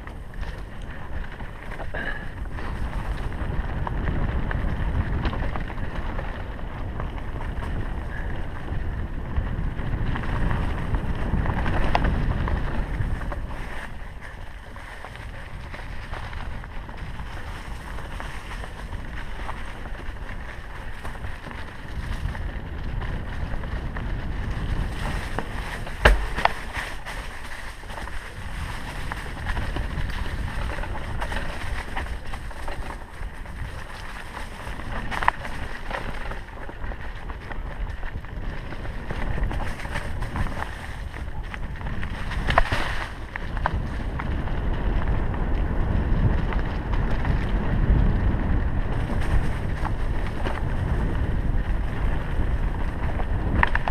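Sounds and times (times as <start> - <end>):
bike knocks and rattles: 0.0 - 53.9
bike tyres rumbling over dirt: 0.0 - 53.9
wind buffeting microphone: 0.0 - 53.9.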